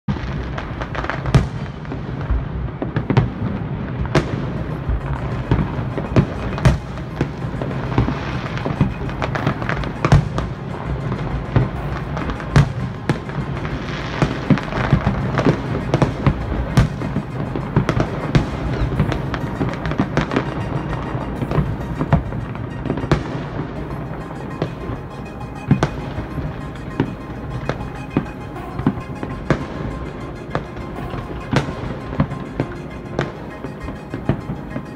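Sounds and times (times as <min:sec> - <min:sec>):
fireworks shells bursting: 0:00.1 - 0:34.9
rumble of explosions: 0:00.1 - 0:34.9.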